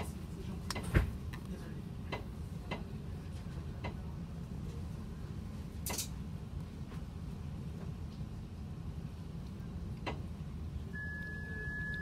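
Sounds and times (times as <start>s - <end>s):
bus cabin rumble: 0.0s - 12.0s.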